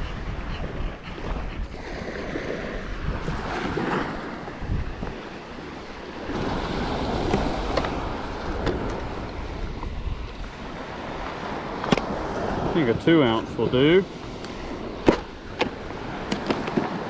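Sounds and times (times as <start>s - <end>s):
wind buffeting microphone: 0.0s - 17.0s
surf washing on shore: 1.0s - 17.0s.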